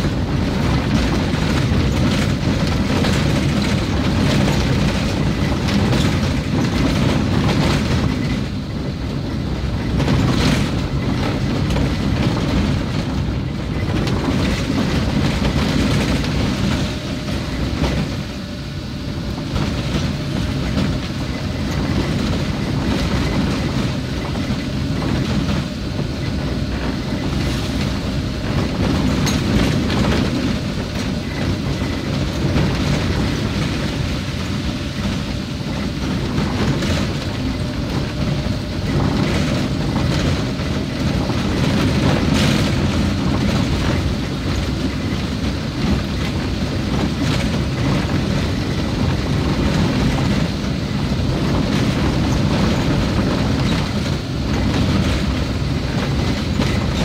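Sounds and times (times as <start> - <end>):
vehicle rumbling on rough road: 0.0 - 57.0.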